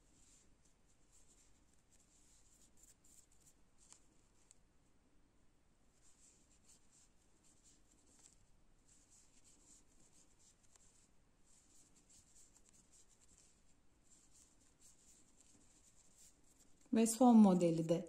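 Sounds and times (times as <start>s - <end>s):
soft scratchy yarn rustling: 0.0s - 4.7s, 5.9s - 18.0s.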